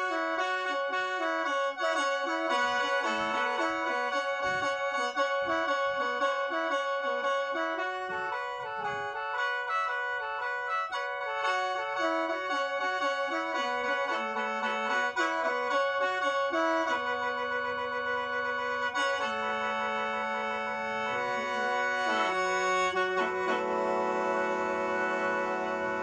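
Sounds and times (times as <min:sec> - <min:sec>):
mouth organ melody and drone: 0:00.0 - 0:26.0.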